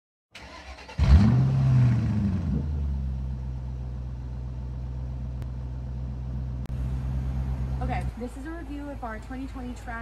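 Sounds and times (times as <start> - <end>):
engine revving and idling: 0.5 - 8.6.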